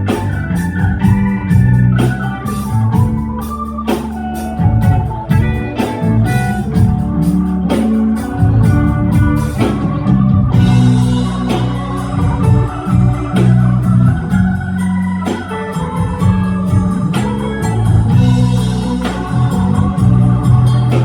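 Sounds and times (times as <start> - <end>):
guitar: 0.0 - 21.0
organ holding chords: 0.0 - 21.0.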